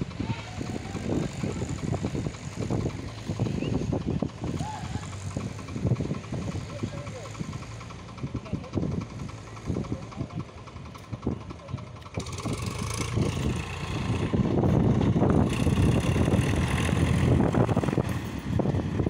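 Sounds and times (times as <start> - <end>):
tractor engine working hard: 0.0 - 19.0.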